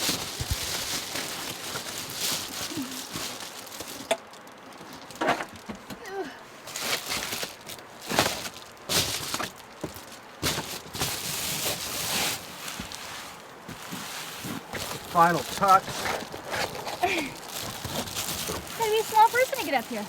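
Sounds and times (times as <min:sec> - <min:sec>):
insulation panels rustling and scraping: 0:00.0 - 0:20.0.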